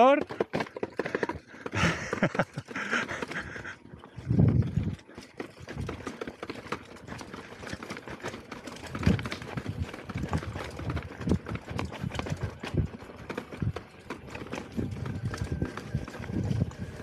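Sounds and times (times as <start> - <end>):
wheel knocking over rocks: 0.0 - 17.0.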